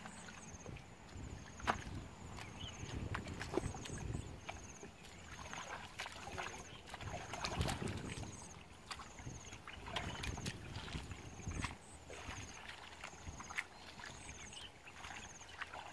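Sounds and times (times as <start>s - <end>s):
hands sloshing in muddy water: 0.0s - 15.9s.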